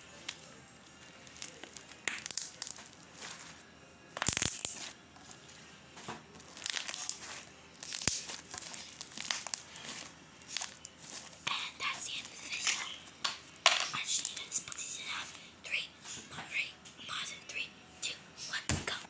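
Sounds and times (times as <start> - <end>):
slime squishing: 0.0 - 16.3.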